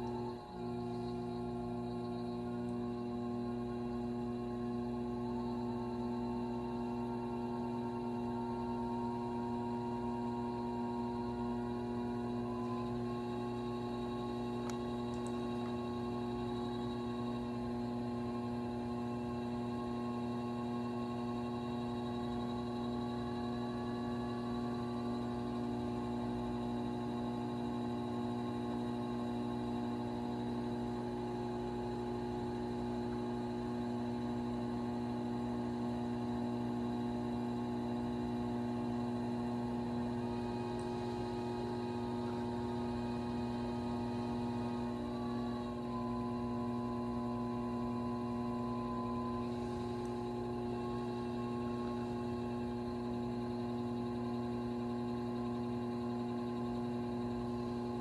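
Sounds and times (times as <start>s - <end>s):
potter's wheel motor humming: 0.0s - 58.0s.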